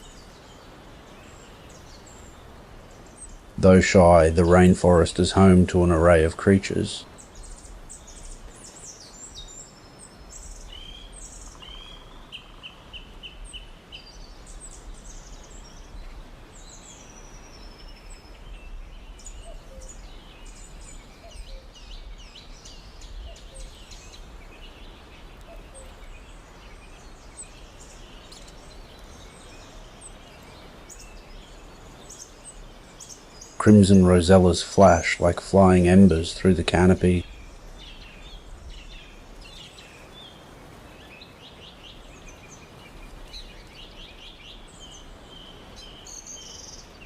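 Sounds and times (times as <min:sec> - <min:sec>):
small birds chirping: 0:00.0 - 0:47.0
steady background hiss: 0:00.0 - 0:47.0.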